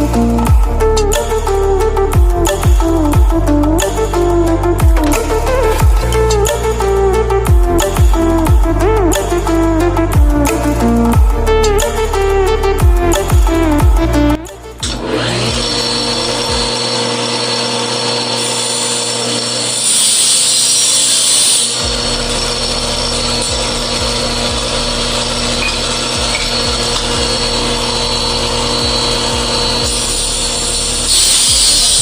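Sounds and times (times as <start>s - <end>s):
power tool cutting wood: 0.0s - 32.0s.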